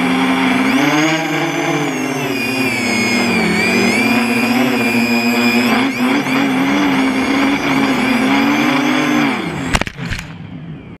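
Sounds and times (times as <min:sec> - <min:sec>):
drone motors buzzing whine: 0:00.0 - 0:11.0.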